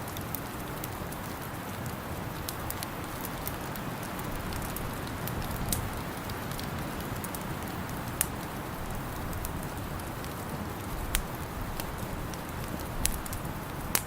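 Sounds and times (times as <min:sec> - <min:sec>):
low rush of wind: 0:00.0 - 0:14.0
wood fire crackling and popping: 0:00.0 - 0:14.0.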